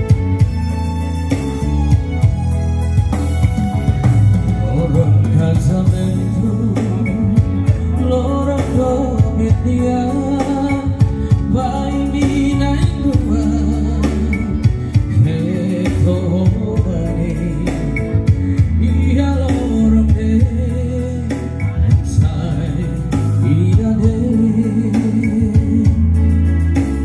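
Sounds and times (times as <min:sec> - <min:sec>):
song over loudspeakers: 0:00.0 - 0:27.0.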